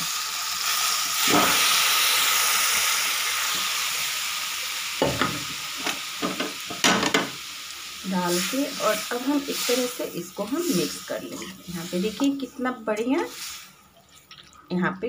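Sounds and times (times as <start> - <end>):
hot oil sizzling: 0.0 - 14.4.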